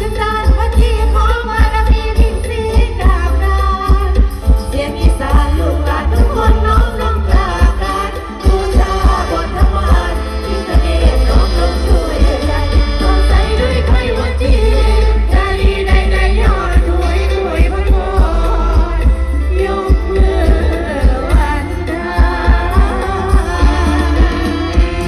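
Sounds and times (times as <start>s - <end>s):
stage-band music with singing: 0.0s - 25.0s.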